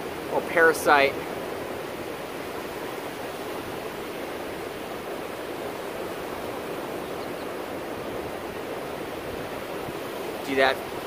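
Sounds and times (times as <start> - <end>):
surf breaking on a beach: 0.0 - 11.0.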